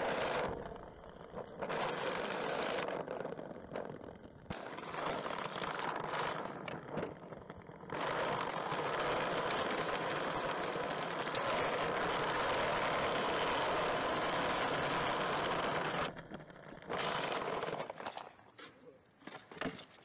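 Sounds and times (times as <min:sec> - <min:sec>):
skateboard wheels rolling on bricks: 0:00.0 - 0:20.0.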